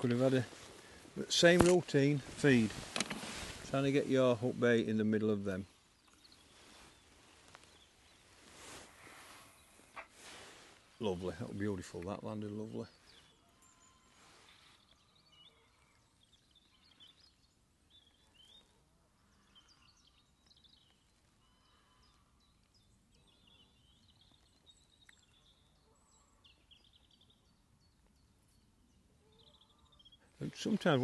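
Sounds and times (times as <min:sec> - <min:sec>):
faint bird chirps and trills: 0:05.0 - 0:31.0.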